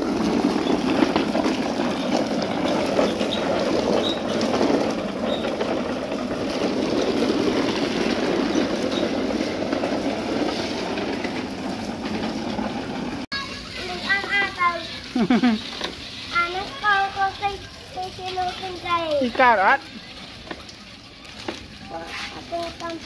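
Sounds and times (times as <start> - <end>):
plastic wheels rolling on concrete: 0.0 - 23.0.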